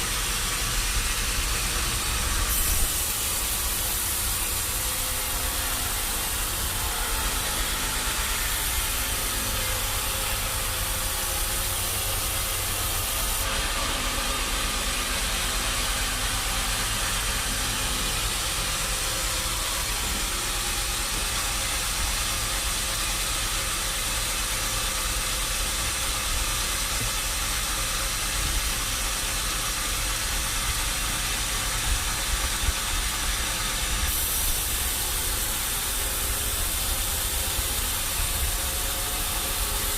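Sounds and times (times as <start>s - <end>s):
machinery hiss and hum: 0.0s - 39.9s.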